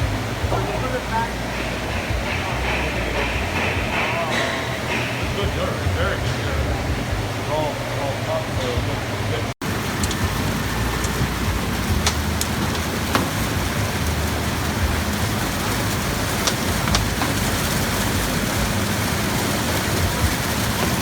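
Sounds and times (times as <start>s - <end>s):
spraying water: 0.0s - 21.0s.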